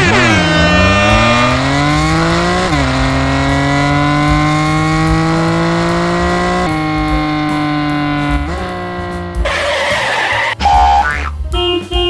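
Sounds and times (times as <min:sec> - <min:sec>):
car engine accelerating hard: 0:00.0 - 0:10.7.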